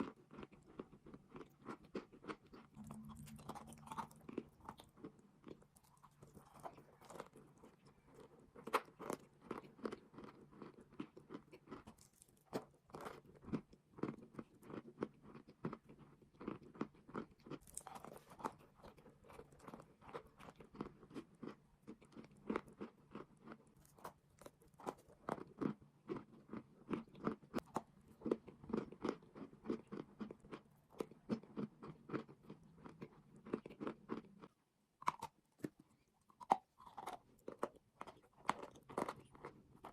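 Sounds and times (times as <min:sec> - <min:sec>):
chalk crunching and chewing: 0:00.0 - 0:39.9.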